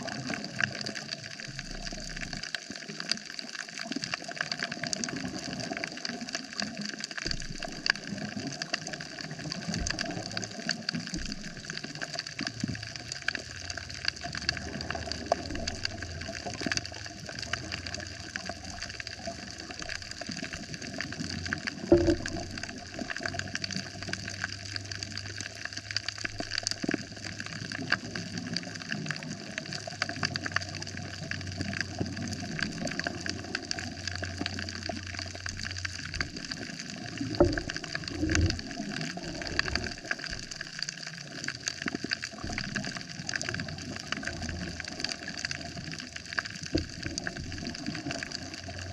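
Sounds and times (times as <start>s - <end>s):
underwater snaps and clicks: 0.0s - 48.9s.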